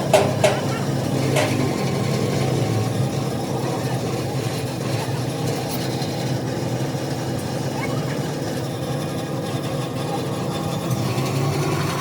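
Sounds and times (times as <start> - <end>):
motor humming steadily: 0.0 - 12.0.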